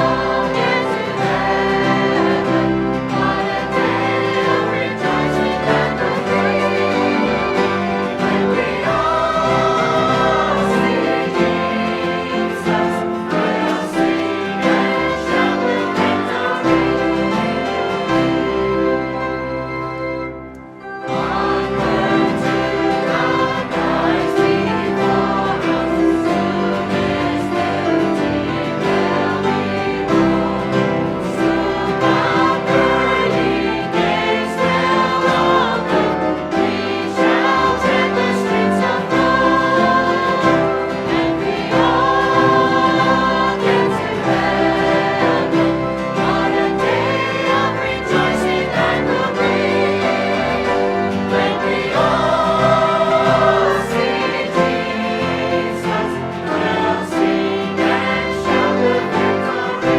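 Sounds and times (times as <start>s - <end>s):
choir singing gospel: 0.0s - 59.9s.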